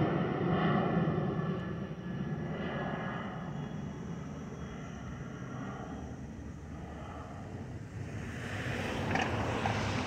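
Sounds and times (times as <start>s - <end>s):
jet engines droning: 0.0s - 10.0s.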